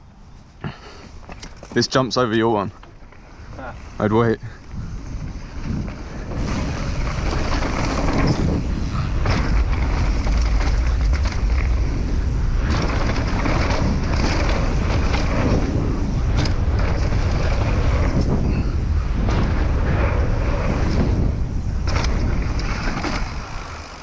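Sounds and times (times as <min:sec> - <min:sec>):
tyres rumbling on dirt: 0:00.6 - 0:24.0
wind buffeting microphone: 0:01.8 - 0:24.0
bike knocking and rattling: 0:04.4 - 0:24.0.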